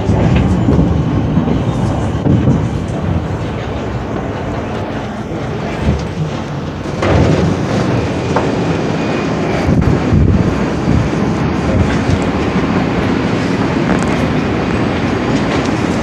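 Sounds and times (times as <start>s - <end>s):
clacks over rail joints: 0.0s - 16.0s
subway wheels rumbling on rails: 0.0s - 16.0s.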